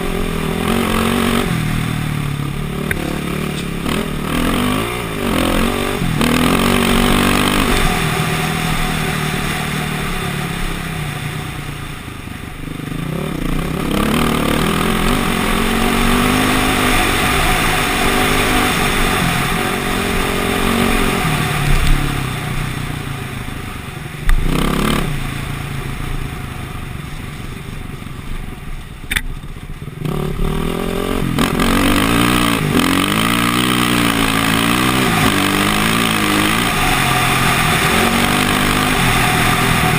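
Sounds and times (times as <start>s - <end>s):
motocross engine revving: 0.0s - 11.7s, 12.7s - 22.8s, 24.3s - 25.7s, 30.0s - 39.9s.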